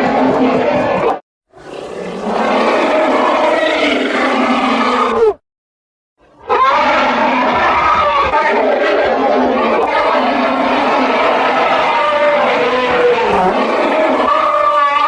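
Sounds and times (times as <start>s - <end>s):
loud creature roar: 1.6s - 5.4s, 6.4s - 15.0s.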